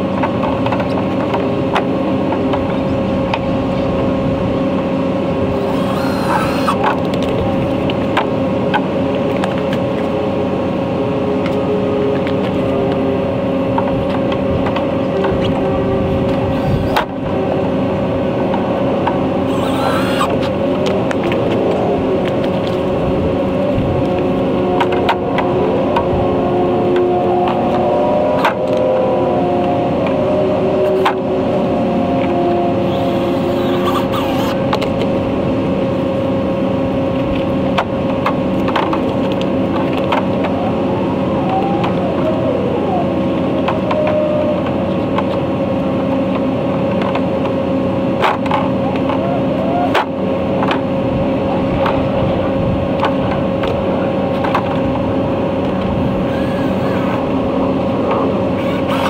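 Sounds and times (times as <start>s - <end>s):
steady motor drone: 0.0s - 59.0s.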